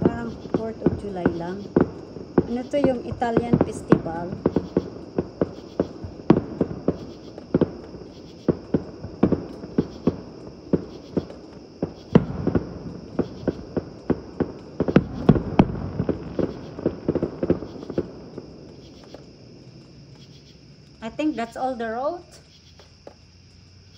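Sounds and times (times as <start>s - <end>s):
fireworks bangs: 0.0s - 23.2s.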